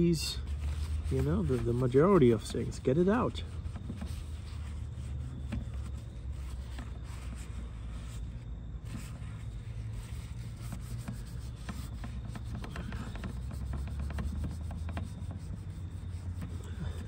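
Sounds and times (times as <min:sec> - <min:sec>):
paper towel scrubbing grill plates: 0:00.0 - 0:17.0
steady low rumble: 0:00.0 - 0:17.0.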